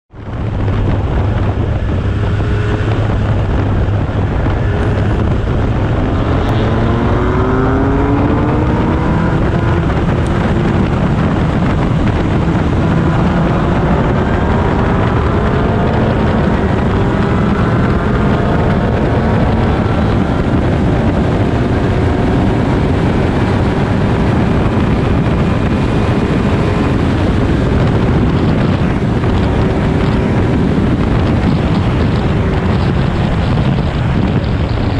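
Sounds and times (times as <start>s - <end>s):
wind noise on microphone: 0.1s - 34.9s
race car engine accelerating: 0.4s - 34.9s.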